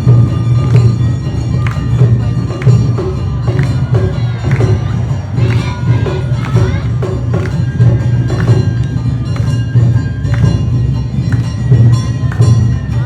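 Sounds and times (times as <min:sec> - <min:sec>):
drums beating: 0:00.0 - 0:13.0.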